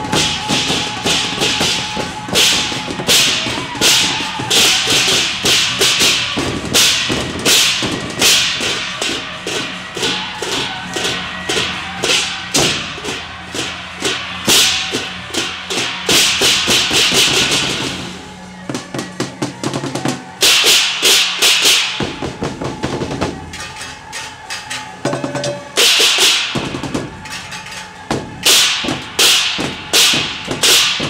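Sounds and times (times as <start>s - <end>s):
cymbals crashing: 0.0s - 31.0s
drums beating: 0.0s - 31.0s
gongs: 0.0s - 31.0s.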